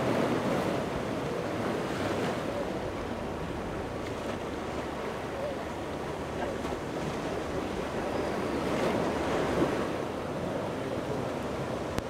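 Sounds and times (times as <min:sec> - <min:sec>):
ocean surf washing on beach: 0:00.0 - 0:12.0.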